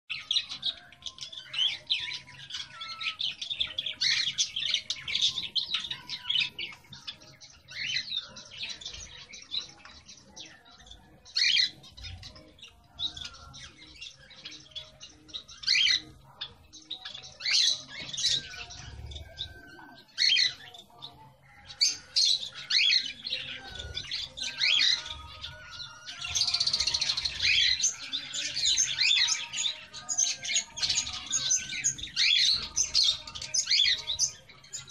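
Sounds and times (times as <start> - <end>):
caged birds chirping: 0.1 - 34.9.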